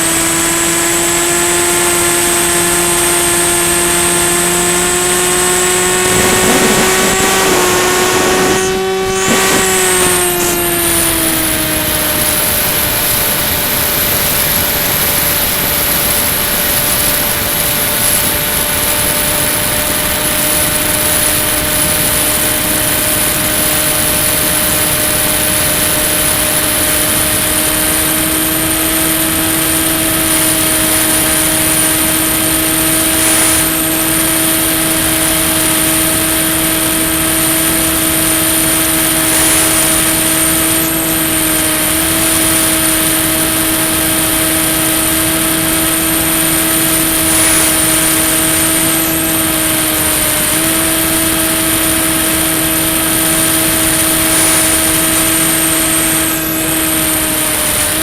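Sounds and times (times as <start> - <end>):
model plane motor and propeller: 0.0 - 58.0
rushing air noise: 5.2 - 58.0.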